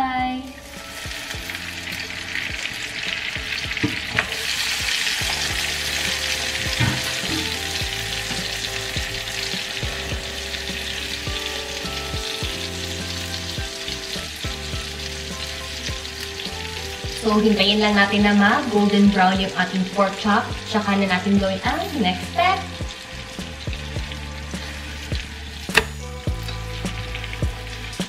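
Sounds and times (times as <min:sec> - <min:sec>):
meat sizzling in a frying pan: 0:00.4 - 0:28.0.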